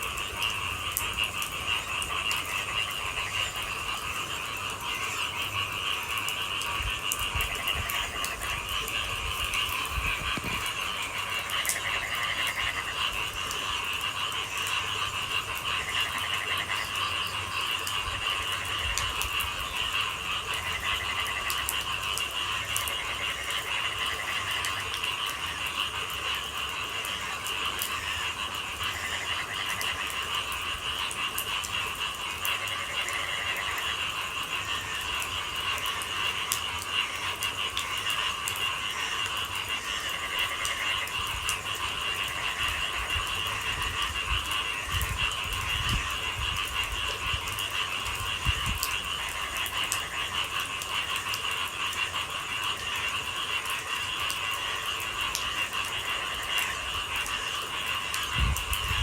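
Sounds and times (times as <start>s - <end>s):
frog trills: 0.0s - 59.0s
frogs calling: 0.0s - 59.0s.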